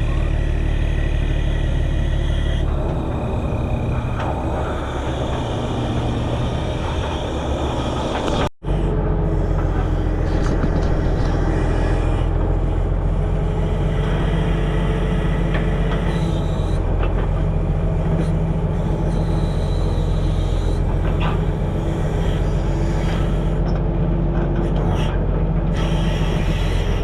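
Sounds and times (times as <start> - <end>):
diesel machinery running: 0.0 - 27.0.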